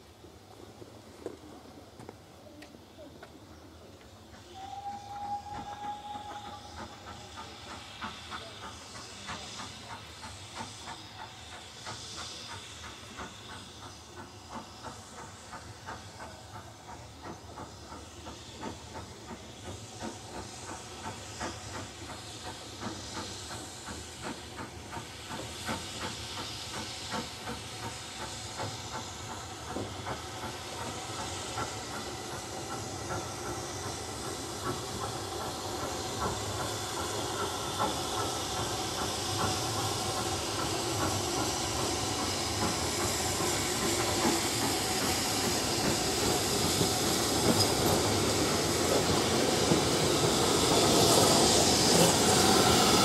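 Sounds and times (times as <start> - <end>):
steam hissing: 0.0 - 53.0
steam locomotive passing: 0.0 - 53.0.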